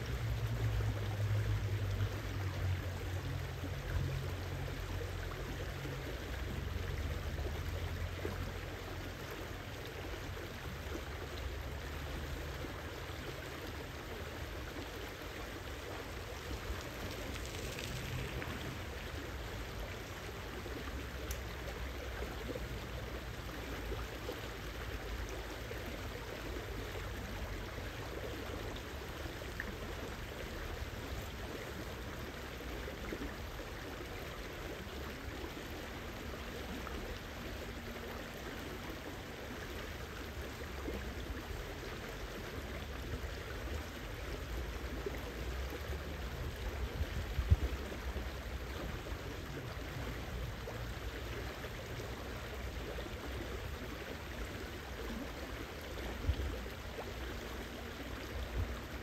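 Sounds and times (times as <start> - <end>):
river rippling over rocks: 0.0 - 59.0.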